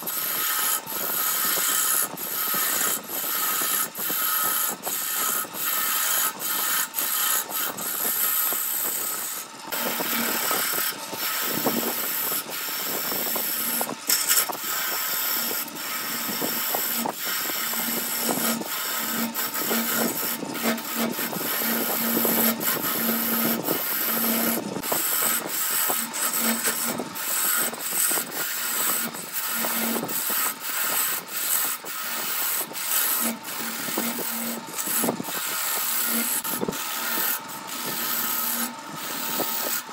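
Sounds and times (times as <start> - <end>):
chisel scraping wood on lathe: 0.0 - 39.9.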